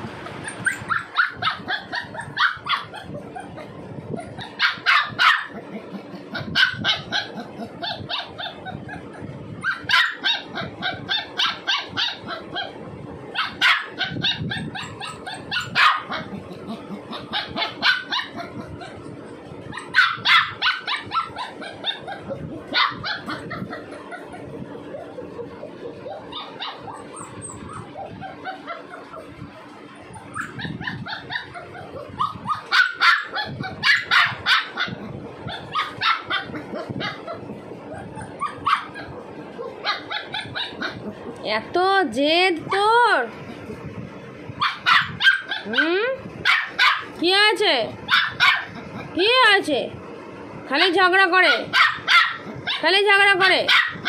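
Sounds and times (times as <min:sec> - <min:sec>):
puppy yapping and barking: 0:00.3 - 0:41.2, 0:44.6 - 0:47.2, 0:48.0 - 0:49.1, 0:51.4 - 0:52.9, 0:53.6 - 0:54.0.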